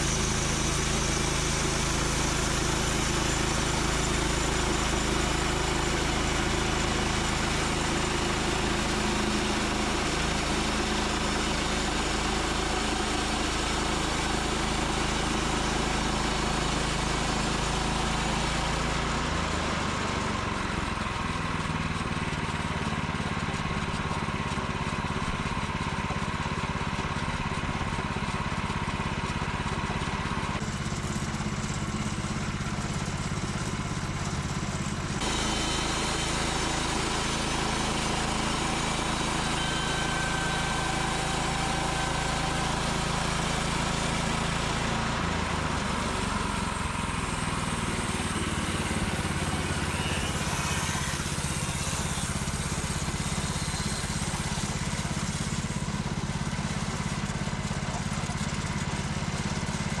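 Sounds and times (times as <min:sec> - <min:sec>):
chainsaw cutting log: 0:00.0 - 1:00.0.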